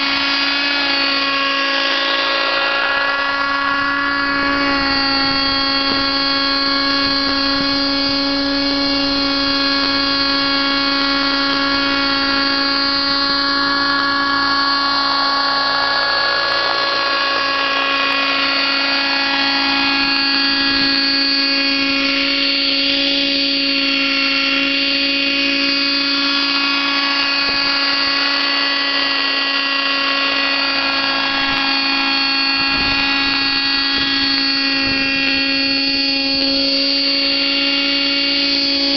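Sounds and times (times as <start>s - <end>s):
rc helicopter engine buzzing: 0.0s - 38.9s.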